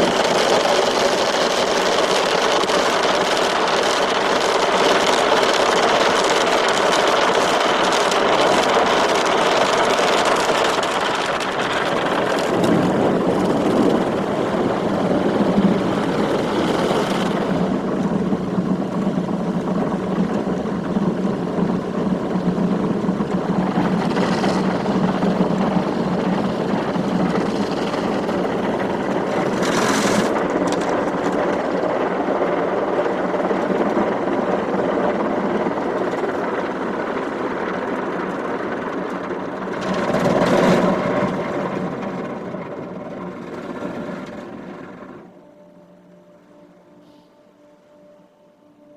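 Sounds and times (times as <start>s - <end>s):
car wash machine noise: 0.0s - 46.5s
low motor hum: 0.0s - 48.9s.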